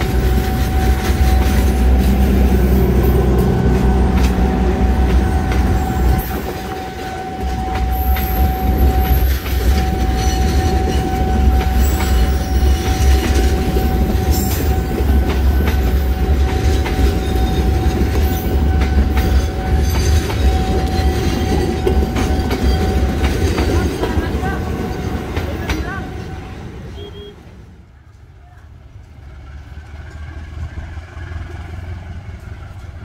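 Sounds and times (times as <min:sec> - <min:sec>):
wheels clacking over rail joints: 0:00.0 - 0:26.8
steady high tone: 0:00.0 - 0:26.9
train carriages rumbling: 0:00.0 - 0:33.0.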